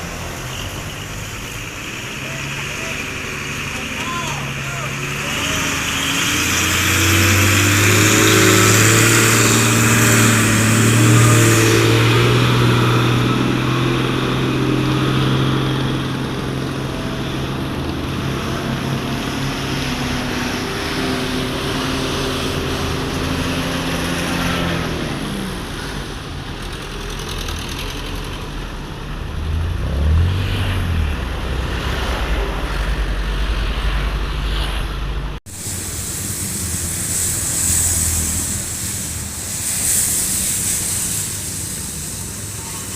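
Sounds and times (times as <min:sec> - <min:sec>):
truck diesel engine labouring: 0:00.0 - 0:42.9.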